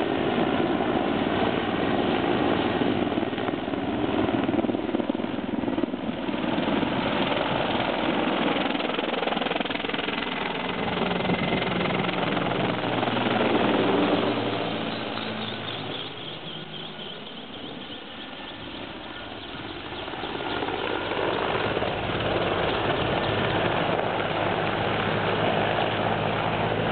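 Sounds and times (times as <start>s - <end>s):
helicopter rotor and engines passing: 0.0s - 26.9s.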